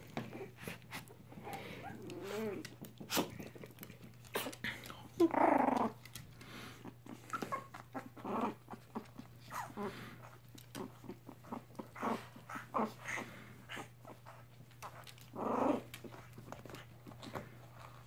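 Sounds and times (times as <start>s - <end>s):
puppies whimpering and growling: 0.1s - 3.6s, 4.2s - 6.1s, 6.7s - 17.2s.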